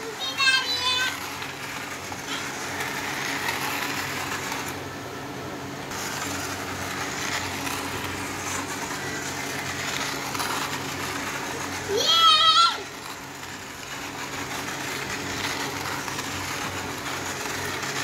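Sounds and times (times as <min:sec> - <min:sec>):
toy train motor whirring: 0:00.0 - 0:04.9, 0:05.8 - 0:18.0.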